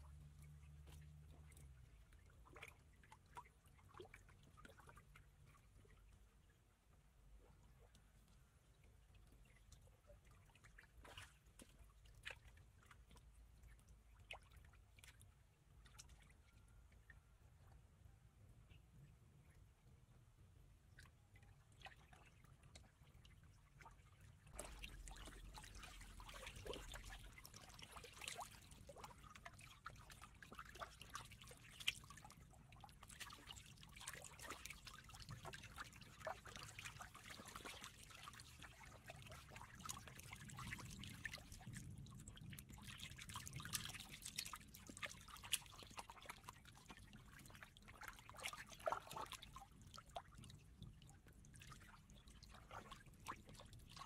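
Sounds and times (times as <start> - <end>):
small splashes and clicks: 0.0 - 18.0, 20.8 - 54.0
water trickling and dripping: 0.0 - 54.0.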